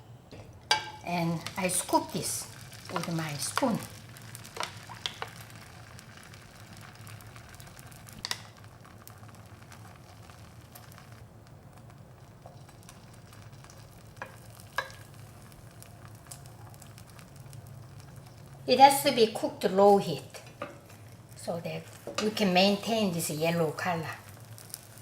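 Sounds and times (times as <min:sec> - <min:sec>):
egg mixture sizzling in pan: 0:00.6 - 0:25.0.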